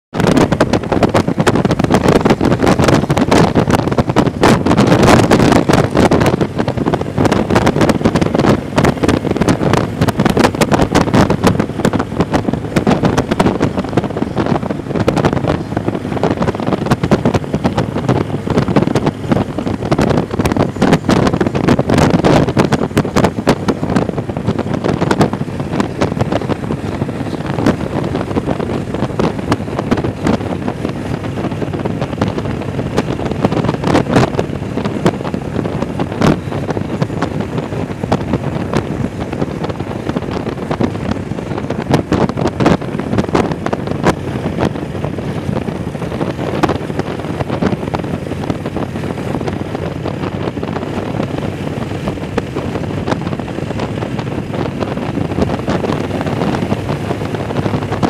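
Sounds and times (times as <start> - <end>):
motorcycle engine: 0.1 - 58.0
road noise: 0.1 - 58.0
wind buffeting microphone: 0.1 - 58.0.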